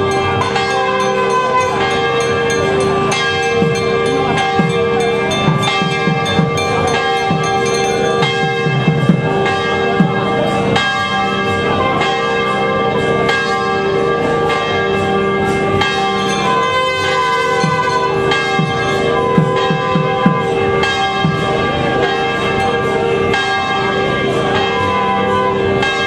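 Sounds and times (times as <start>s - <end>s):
temple bells ringing rapidly: 0.0s - 26.0s.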